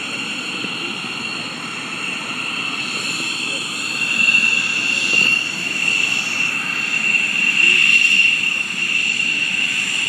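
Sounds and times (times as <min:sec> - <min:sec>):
jet engine whine and rush: 0:00.0 - 0:10.0.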